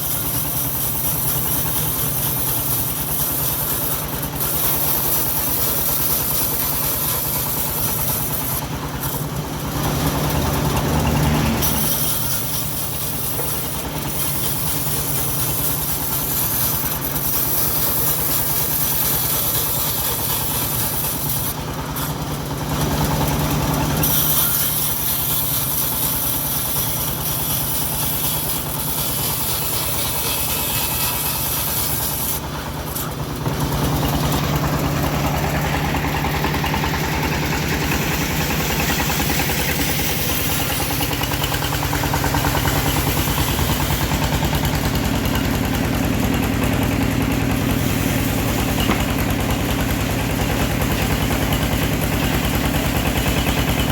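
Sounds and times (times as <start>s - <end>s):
saw blade hissing through wood: 0.0s - 53.9s
sawmill engine running: 0.0s - 53.9s.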